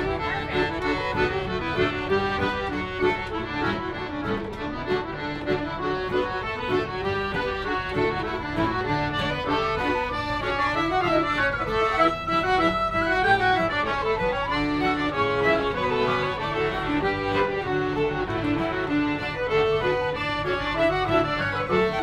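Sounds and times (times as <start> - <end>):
accordion: 0.0 - 22.0
acoustic guitar: 0.0 - 22.0
fiddle: 0.0 - 22.0.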